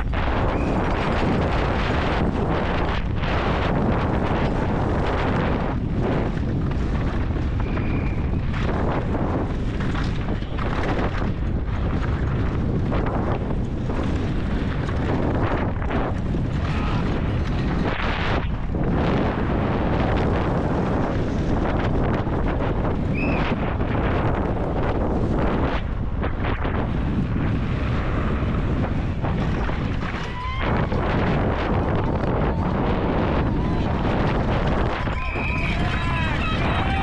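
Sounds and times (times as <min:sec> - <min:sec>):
tyres rumbling on loose stones: 0:00.0 - 0:37.0
wind rush on microphone: 0:00.0 - 0:37.0.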